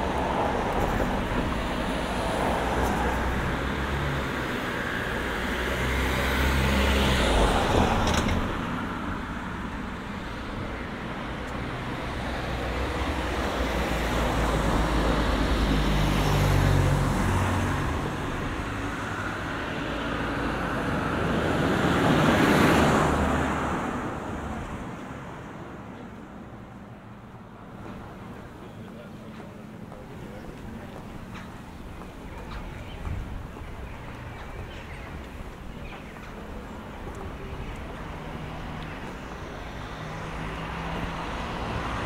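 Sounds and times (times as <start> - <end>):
cars passing close by: 0.0 - 42.0.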